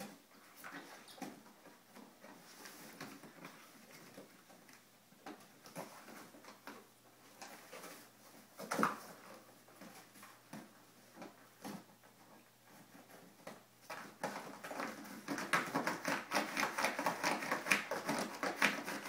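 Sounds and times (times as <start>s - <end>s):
puppies chewing cardboard: 0.0s - 19.0s.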